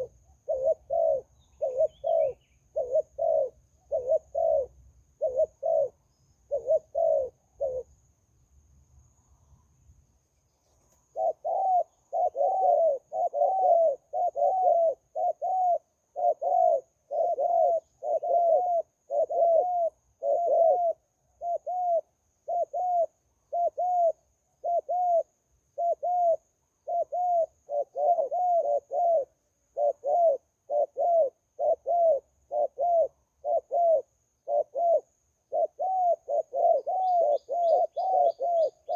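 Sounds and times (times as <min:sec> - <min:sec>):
dove cooing: 0:00.0 - 0:08.0, 0:10.6 - 0:38.9.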